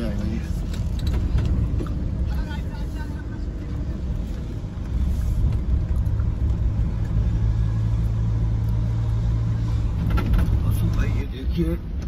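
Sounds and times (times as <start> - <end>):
car engine and road rumble: 0.0 - 12.0
engine hum: 0.0 - 12.0.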